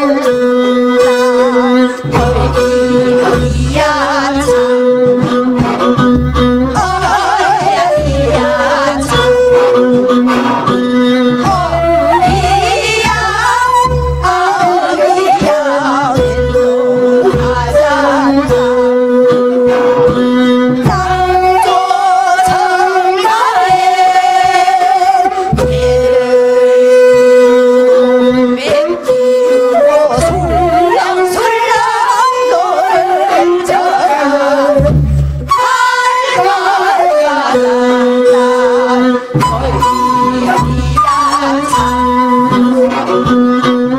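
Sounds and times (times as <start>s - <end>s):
women singing folk song: 0.0s - 10.2s, 11.0s - 43.9s
instrumental accompaniment: 0.0s - 43.9s.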